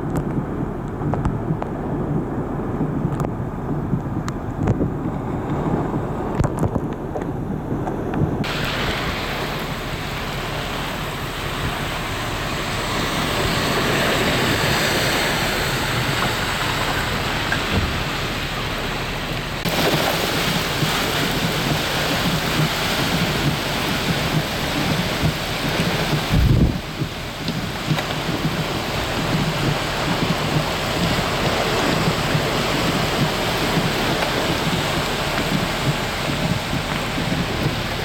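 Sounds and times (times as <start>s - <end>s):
heavy rain pouring: 0.0s - 38.0s
low rumble: 0.0s - 38.0s.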